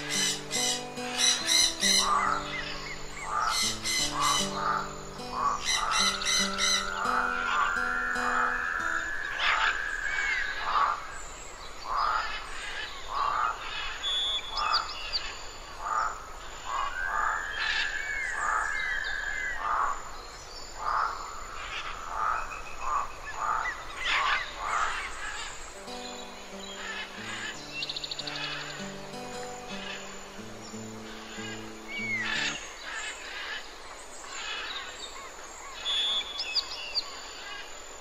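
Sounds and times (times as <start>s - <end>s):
frogs croaking: 0.0s - 38.0s.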